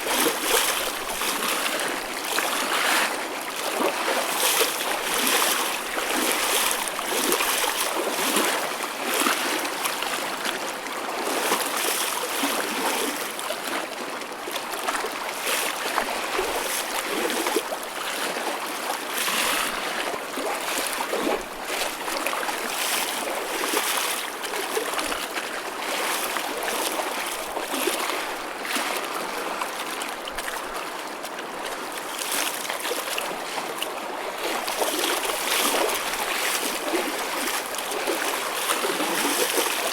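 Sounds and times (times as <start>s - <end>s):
choppy ocean waves: 0.0s - 39.9s
small water splashes: 0.0s - 39.9s.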